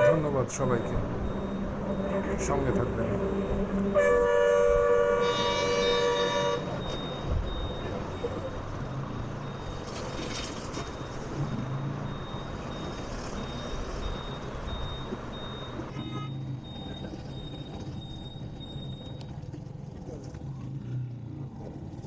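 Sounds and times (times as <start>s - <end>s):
high-pitched beep: 0.0s - 19.2s
road and traffic noise: 0.0s - 20.0s.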